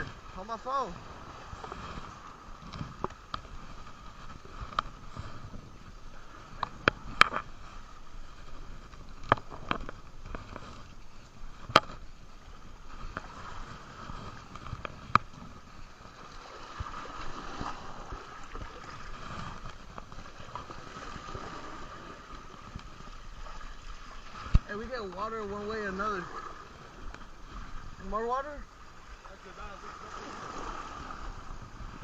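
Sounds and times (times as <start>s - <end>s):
water noise: 0.0s - 32.0s
wind: 0.0s - 32.0s.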